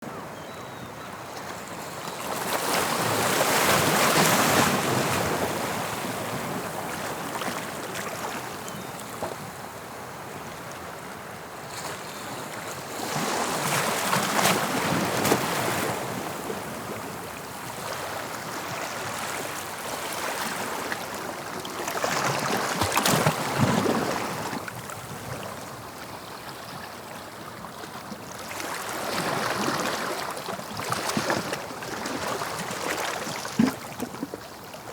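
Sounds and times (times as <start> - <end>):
sea waves breaking on shore: 1.4 - 34.9.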